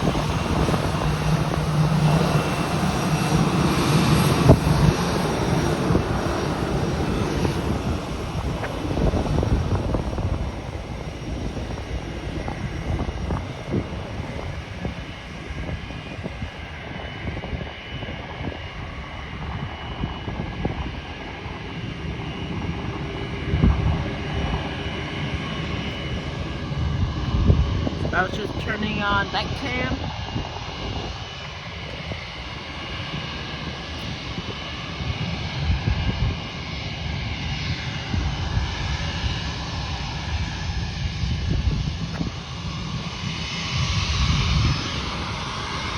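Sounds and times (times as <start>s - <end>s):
jet airliner passing: 0.0s - 45.9s.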